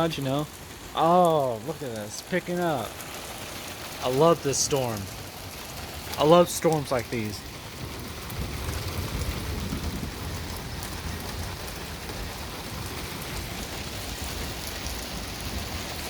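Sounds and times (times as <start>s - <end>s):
low thunder rumble: 0.0s - 16.0s
rain on hard surfaces: 0.0s - 16.0s.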